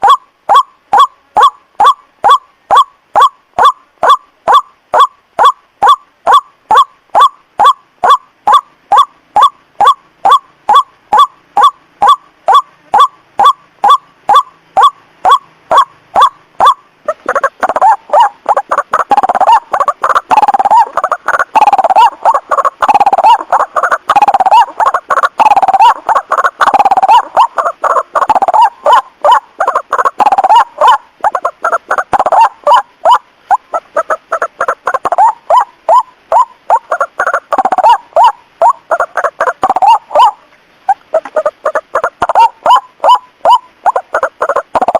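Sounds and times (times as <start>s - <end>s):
waterhen croaking calls: 0.0s - 44.9s.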